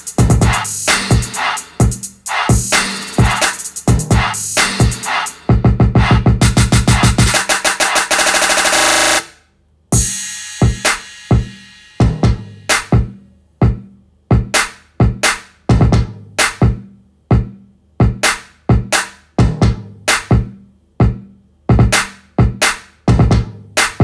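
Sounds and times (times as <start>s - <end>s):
drum machine beat: 0.0s - 9.3s, 9.9s - 24.0s.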